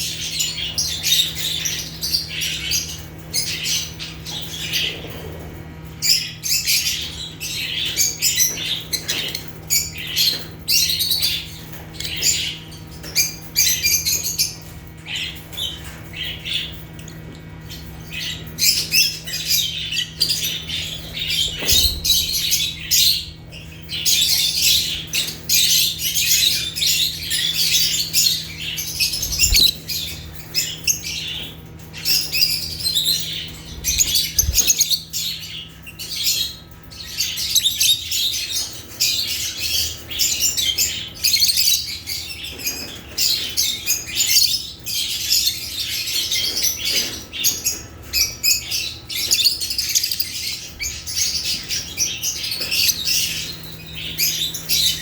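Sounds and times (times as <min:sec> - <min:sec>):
lovebirds chirping and squawking: 0:00.0 - 0:55.0.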